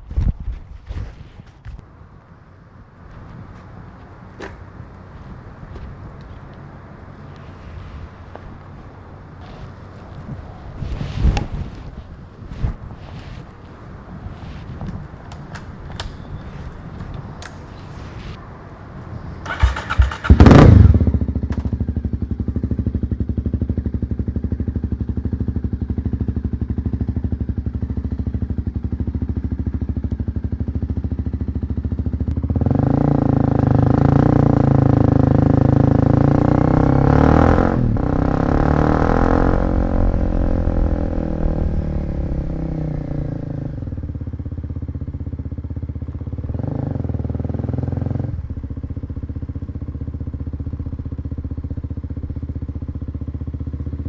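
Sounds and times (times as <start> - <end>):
motorcycle engine idling and revving: 1.6 - 54.0.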